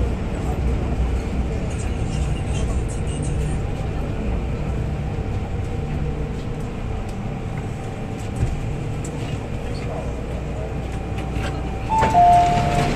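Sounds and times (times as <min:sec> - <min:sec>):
train car interior hum: 0:00.0 - 0:12.9.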